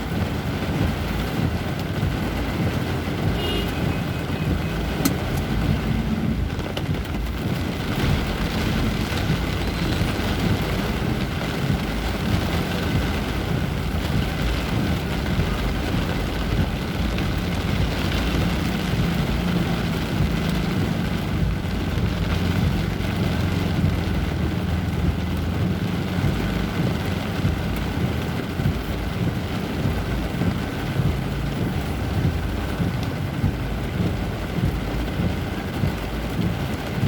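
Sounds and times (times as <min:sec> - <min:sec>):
heavy rain hissing: 0:00.0 - 0:37.0
traffic engines rumbling: 0:00.0 - 0:37.0.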